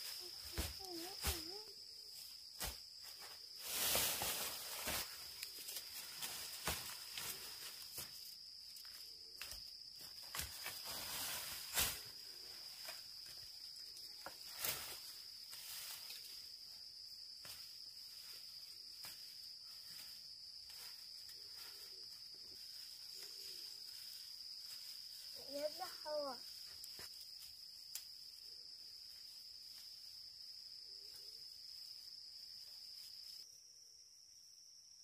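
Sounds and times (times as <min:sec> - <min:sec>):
insect drone: 0:00.0 - 0:35.0.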